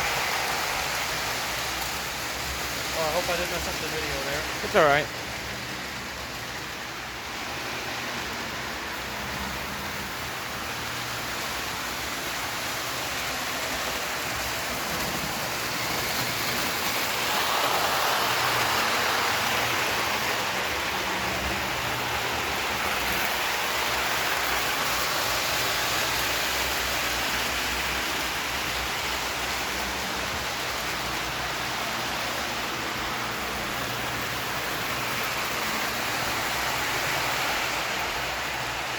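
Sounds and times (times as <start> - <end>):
model trains running on track: 0.0 - 38.9.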